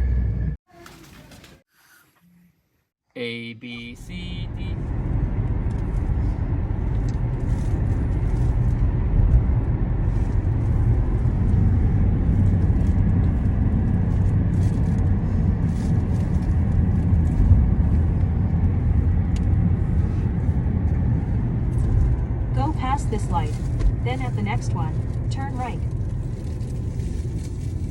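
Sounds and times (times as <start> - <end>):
car engine and tyres rumbling: 0.0 - 0.6, 3.4 - 27.9.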